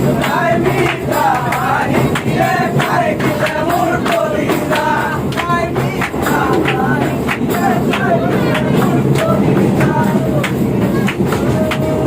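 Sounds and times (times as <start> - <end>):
steady percussive beat: 0.0 - 12.0
voices singing together: 0.0 - 12.0.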